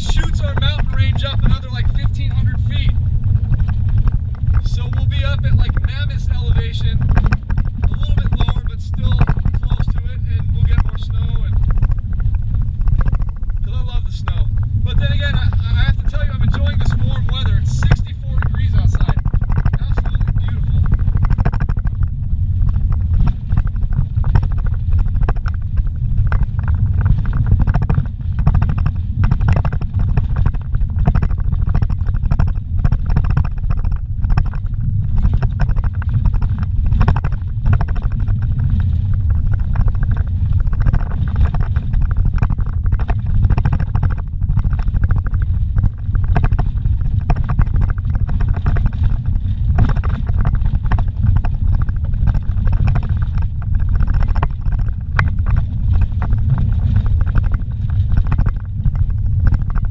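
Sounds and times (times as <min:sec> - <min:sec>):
tyres on dirt road: 0:00.0 - 0:59.9
vehicle engine rumble: 0:00.0 - 0:59.9.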